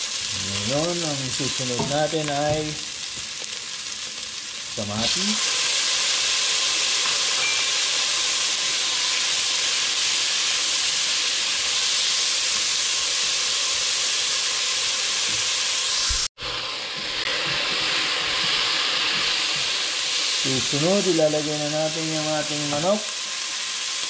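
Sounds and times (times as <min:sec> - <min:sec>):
vegetables sizzling in hot oil: 0:00.0 - 0:24.0.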